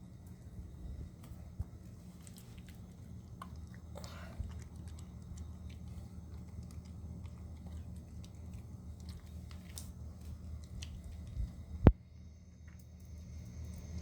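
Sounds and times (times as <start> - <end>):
steady low hum: 0.0 - 14.0
dog chewing: 0.3 - 11.9.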